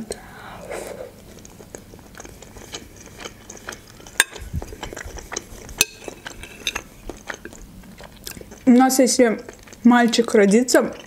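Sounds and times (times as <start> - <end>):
close chewing with wet mouth clicks: 1.2 - 11.0.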